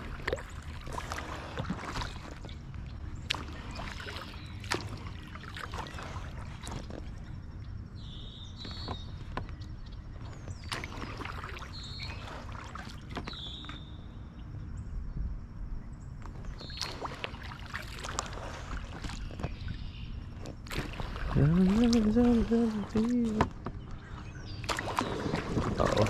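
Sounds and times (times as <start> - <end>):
paddle strokes splashing: 0.0 - 7.6, 8.5 - 14.0, 16.4 - 26.0
steady low rumble: 0.0 - 26.0.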